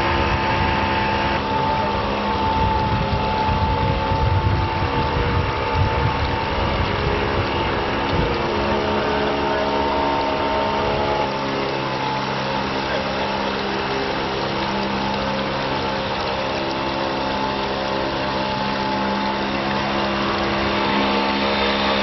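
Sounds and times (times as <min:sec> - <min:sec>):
motor hum with held tones: 0:00.0 - 0:22.0.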